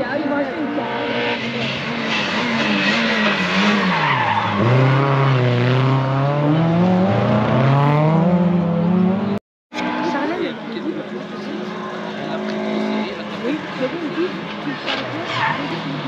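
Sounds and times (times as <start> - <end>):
rally car engine accelerating: 0.6 - 16.0.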